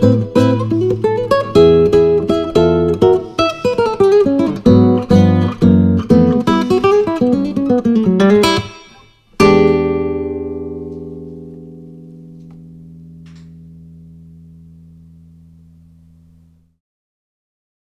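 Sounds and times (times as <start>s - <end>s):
guitar chord ringing: 0.0s - 16.7s
fingerpicked classical guitar: 0.0s - 16.8s.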